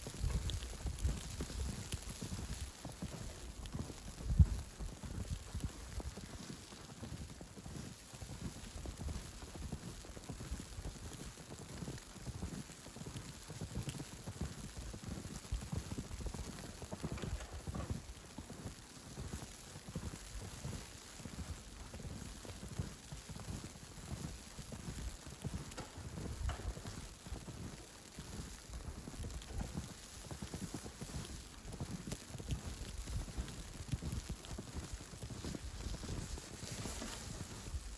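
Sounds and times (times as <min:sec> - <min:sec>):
footsteps crunching through snow: 0:00.0 - 0:37.9
soft hiss of snowfall: 0:00.0 - 0:37.9.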